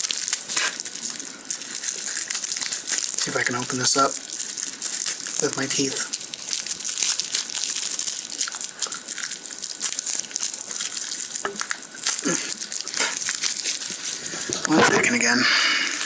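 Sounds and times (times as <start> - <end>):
bubble wrap crinkling and crackling: 0.0 - 16.0.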